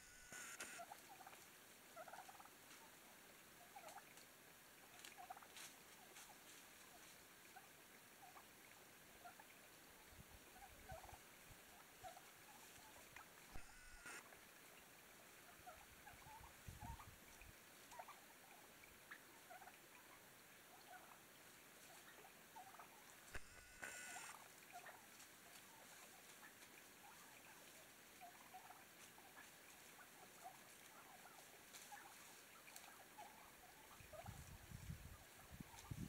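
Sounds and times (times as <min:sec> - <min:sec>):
turkey calls: 0:00.0 - 0:01.4, 0:02.0 - 0:02.9, 0:03.6 - 0:04.2, 0:04.8 - 0:14.3, 0:15.3 - 0:21.2, 0:21.8 - 0:34.5, 0:35.2 - 0:36.0
turkeys clucking softly: 0:00.0 - 0:36.0.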